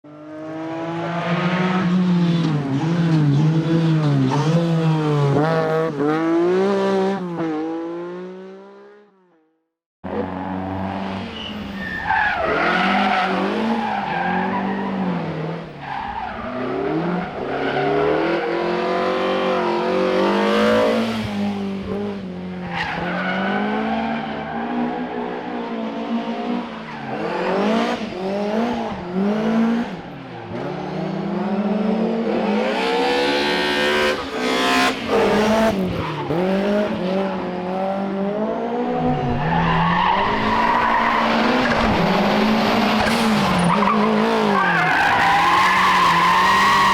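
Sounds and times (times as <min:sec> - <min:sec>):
rally car engine at full throttle: 0:00.0 - 0:09.1, 0:10.0 - 0:46.9
rally car revving hard: 0:00.1 - 0:09.0, 0:12.3 - 0:46.9.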